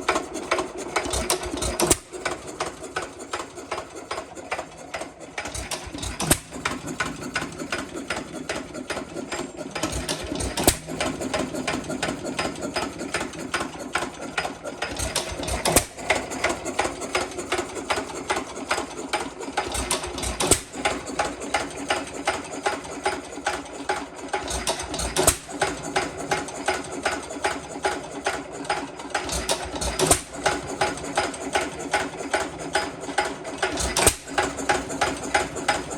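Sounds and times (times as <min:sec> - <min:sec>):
engine clicking and firing: 0:00.0 - 0:35.9.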